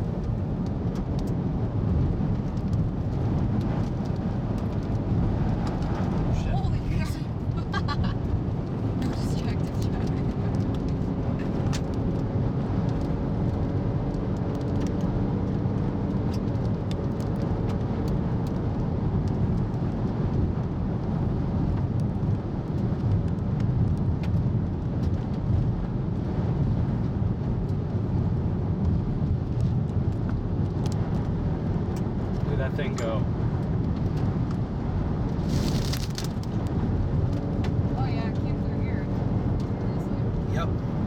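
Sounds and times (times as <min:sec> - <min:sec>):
car tyres and engine rumbling: 0:00.0 - 0:41.0.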